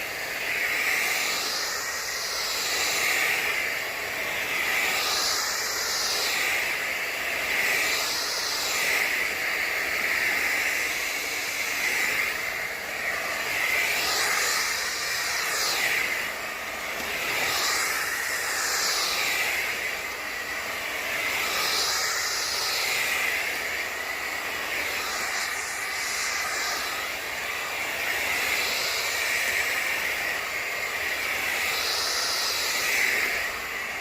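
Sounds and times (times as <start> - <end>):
floor cleaner hissing whine: 0.0 - 34.0.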